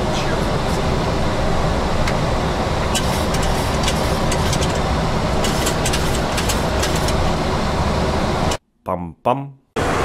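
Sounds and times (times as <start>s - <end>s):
airflow and engine rush: 0.0s - 8.6s, 9.8s - 10.0s.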